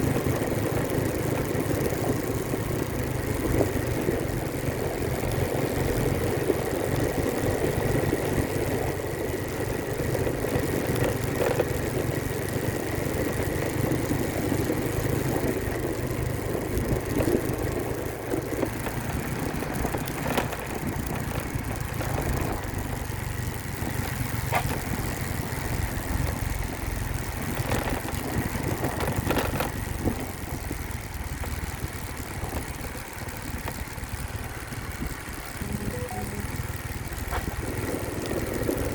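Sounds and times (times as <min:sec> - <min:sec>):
engine running with low rumble: 0:00.0 - 0:38.9.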